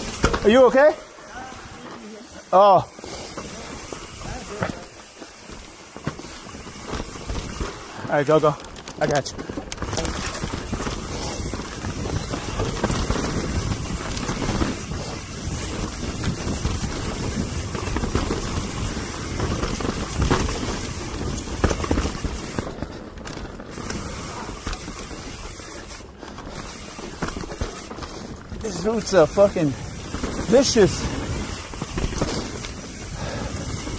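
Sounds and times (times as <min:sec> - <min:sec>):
bike rattling and knocking: 0:00.0 - 0:33.9.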